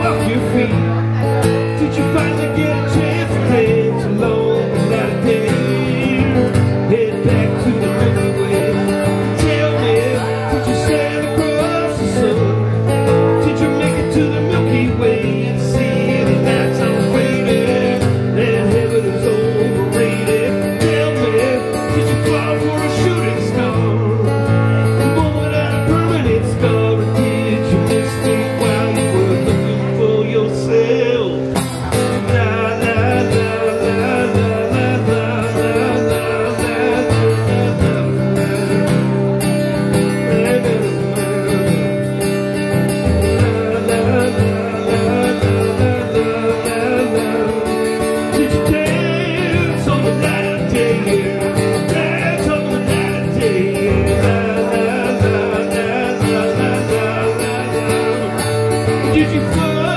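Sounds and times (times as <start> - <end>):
acoustic guitar: 0.0 - 59.9
man singing: 0.0 - 59.9.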